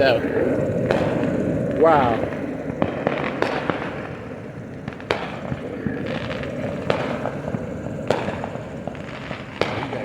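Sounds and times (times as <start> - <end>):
fireworks sharp bangs: 0.0 - 10.0
steady noisy background: 0.0 - 10.0.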